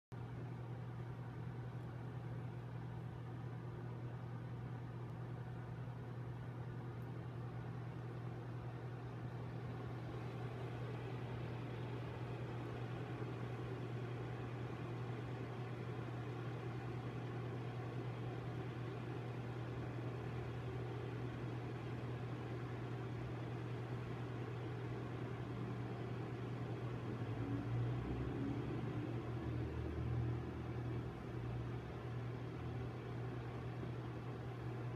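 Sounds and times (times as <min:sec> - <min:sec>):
low mechanical hum: 0:00.1 - 0:34.9.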